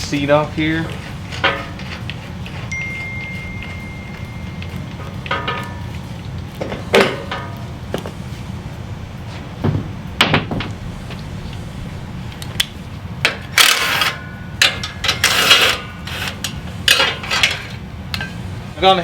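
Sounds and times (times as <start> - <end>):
noisy bursts: 0.0 - 19.0.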